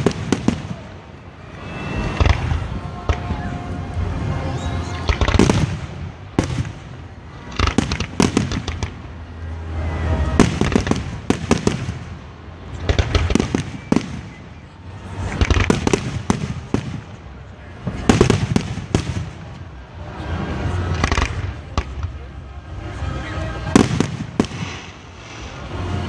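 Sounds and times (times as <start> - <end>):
fireworks bangs: 0.0 - 9.1, 9.7 - 22.3, 22.9 - 26.0.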